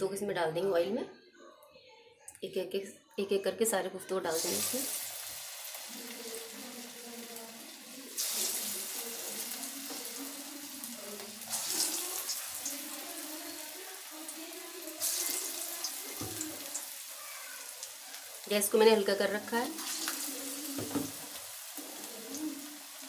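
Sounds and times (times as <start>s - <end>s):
balls sizzling in hot oil: 4.3s - 23.0s.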